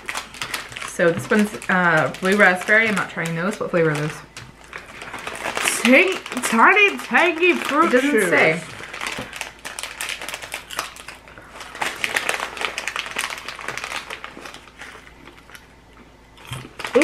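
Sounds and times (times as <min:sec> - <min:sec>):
candy wrapper crinkling: 0:00.0 - 0:15.7, 0:16.5 - 0:17.0.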